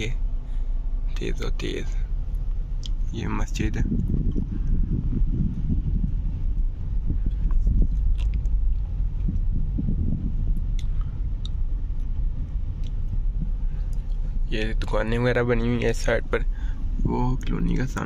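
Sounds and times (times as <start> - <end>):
car driving rumble: 0.0 - 18.0.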